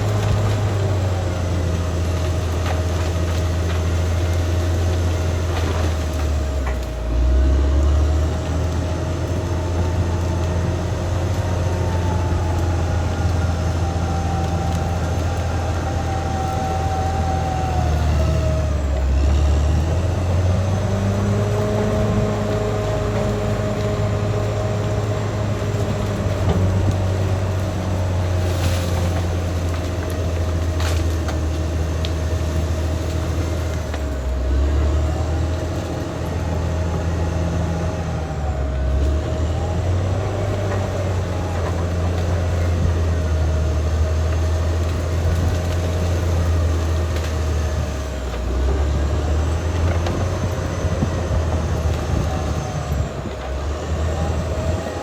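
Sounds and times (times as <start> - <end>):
bulldozer engine droning: 0.0 - 55.0.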